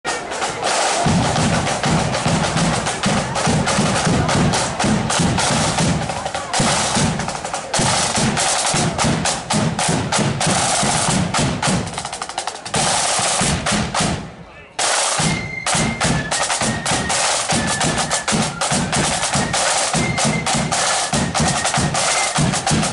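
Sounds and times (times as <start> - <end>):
snare drums rattling rolls: 0.1 - 22.9.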